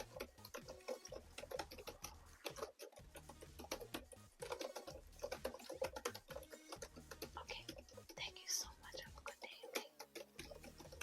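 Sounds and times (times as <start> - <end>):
rapid sharp clicks: 0.0 - 11.0.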